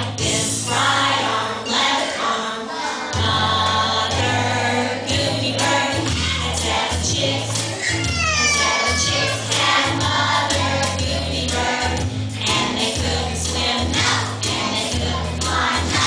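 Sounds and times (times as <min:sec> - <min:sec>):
music with choir singing: 0:00.0 - 0:16.0.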